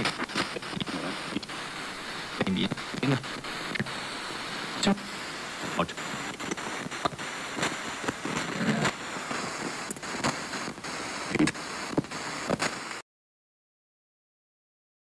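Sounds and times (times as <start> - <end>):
sharp clicks and pops: 0.0 - 12.8
crackling hiss: 0.0 - 13.0.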